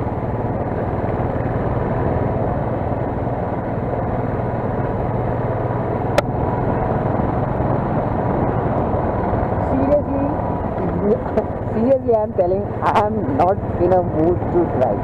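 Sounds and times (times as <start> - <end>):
road and wind noise: 0.0 - 15.0
vehicle engine humming: 0.0 - 15.0.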